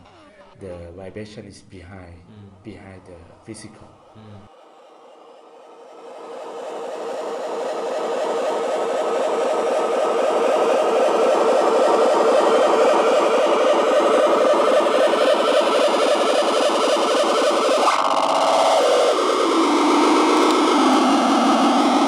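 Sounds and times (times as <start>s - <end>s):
harsh experimental noise music: 2.7s - 22.0s.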